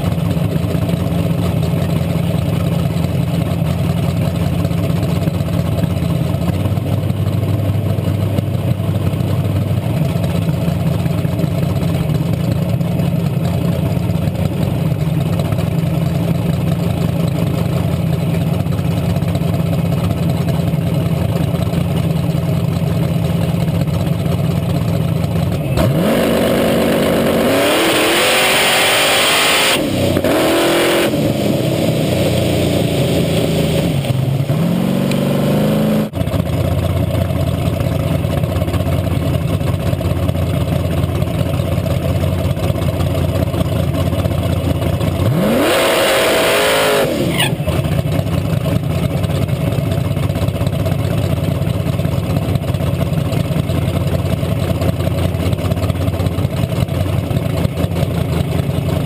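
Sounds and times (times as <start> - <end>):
drag car engine idling and revving: 0.0 - 59.0.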